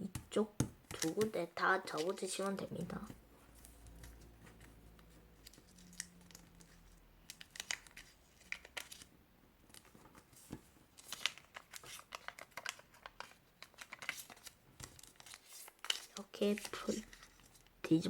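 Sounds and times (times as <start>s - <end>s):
paper being folded and creased: 0.9s - 2.6s, 3.6s - 9.1s, 9.7s - 18.0s.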